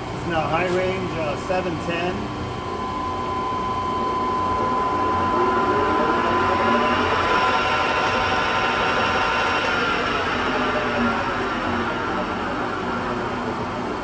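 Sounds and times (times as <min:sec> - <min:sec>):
lathe hum with gear whine: 0:00.0 - 0:14.0.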